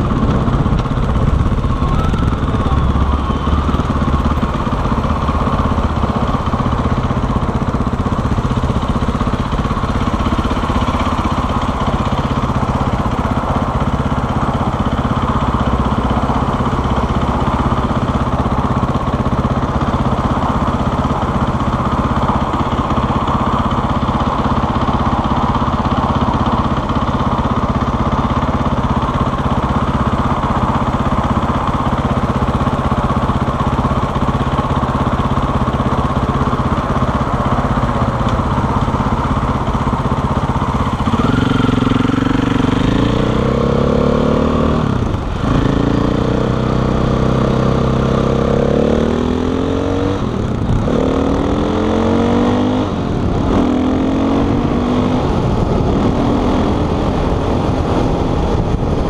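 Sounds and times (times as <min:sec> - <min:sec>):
motorcycle engine idling and accelerating: 0:00.0 - 0:59.0.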